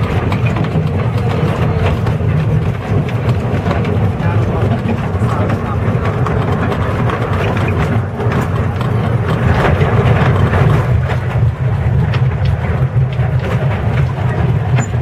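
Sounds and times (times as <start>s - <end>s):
diesel locomotive engine drone: 0.0s - 15.0s
wheels rattling and clicking on track: 0.0s - 15.0s.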